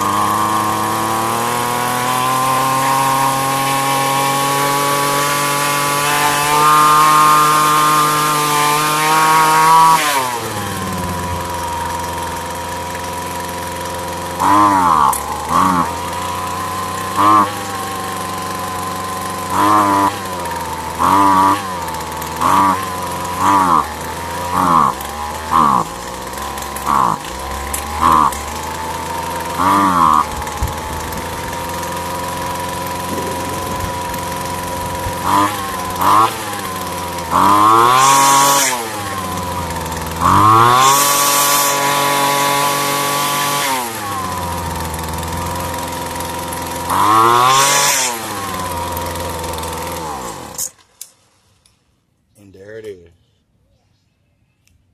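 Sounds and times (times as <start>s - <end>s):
string trimmer engine revving: 0.0s - 51.2s.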